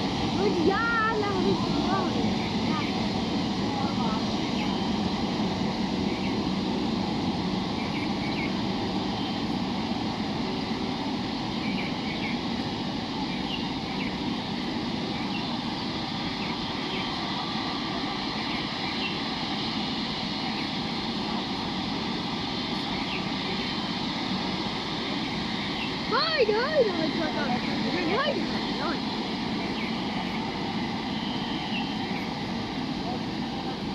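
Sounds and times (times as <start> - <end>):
jet engines idling: 0.0 - 33.9.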